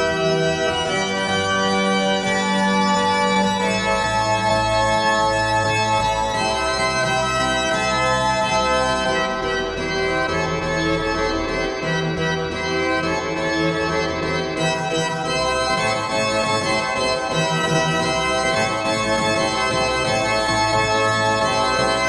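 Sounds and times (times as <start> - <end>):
organ chords: 0.0 - 22.0.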